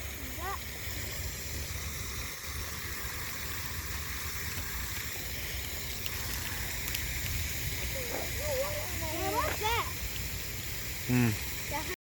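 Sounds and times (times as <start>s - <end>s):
low flickering rumble: 0.0s - 12.0s
rushing hiss: 0.0s - 12.0s.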